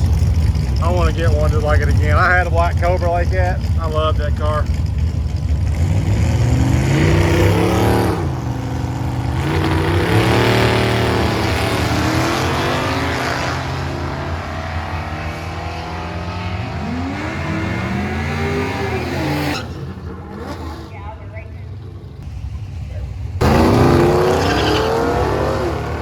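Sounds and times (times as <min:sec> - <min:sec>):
race car engines at full throttle: 0:00.0 - 0:26.0.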